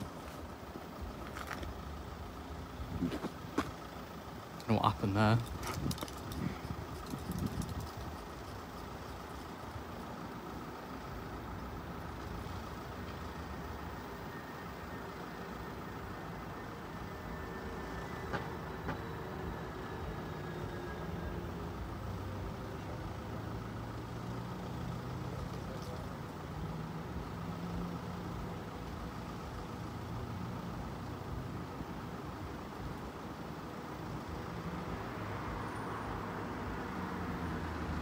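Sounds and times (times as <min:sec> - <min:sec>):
vehicle engines humming: 0:00.0 - 0:38.0.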